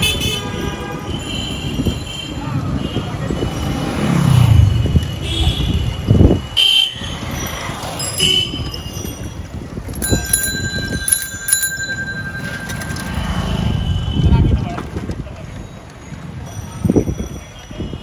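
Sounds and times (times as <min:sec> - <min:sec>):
motor engines rumbling: 0:01.9 - 0:17.1.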